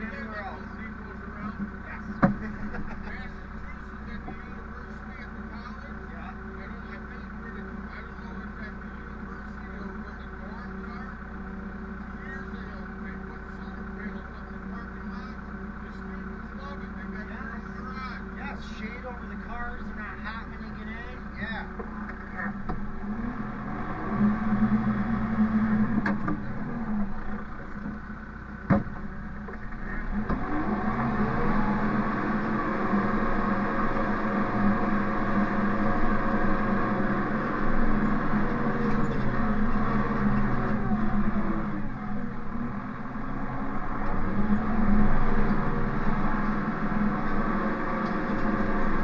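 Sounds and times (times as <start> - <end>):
engine running: 0.0 - 49.0.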